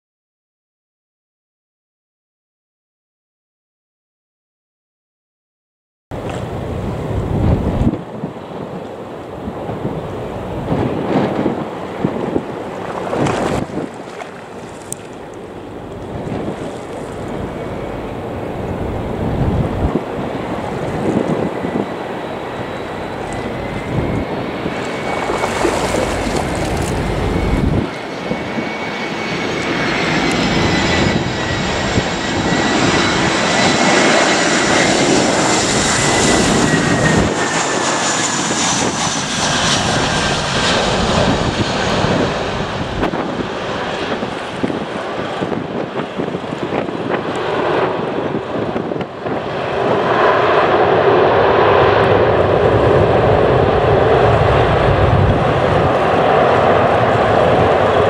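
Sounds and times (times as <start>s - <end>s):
jet engine whine: 6.1s - 58.0s
jet reverse thrust roar: 6.2s - 58.0s.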